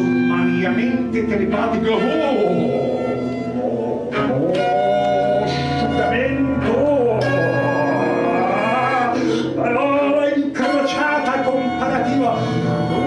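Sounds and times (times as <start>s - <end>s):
violin improvising: 0.0s - 13.0s
man's wordless singing: 0.6s - 13.0s.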